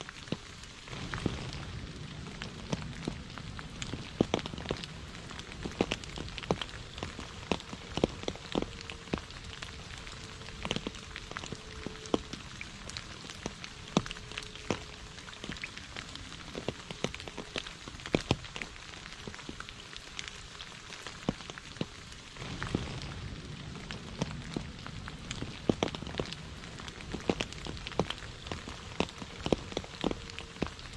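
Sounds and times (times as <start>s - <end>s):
rain pattering on puddle: 0.0s - 30.9s
sharp water drips: 0.0s - 30.9s
low rumble: 0.8s - 18.0s, 22.4s - 30.9s.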